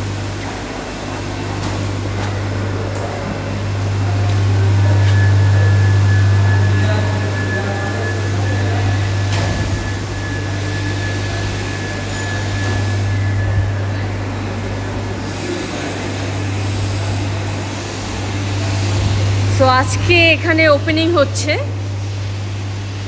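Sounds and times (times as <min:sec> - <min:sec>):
low hum of machinery: 0:00.0 - 0:23.0
faint high whine: 0:02.3 - 0:22.9.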